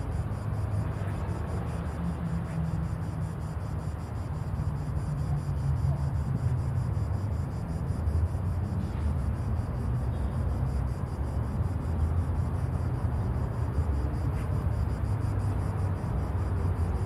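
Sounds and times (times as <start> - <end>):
insects pulsing: 0.0 - 17.0.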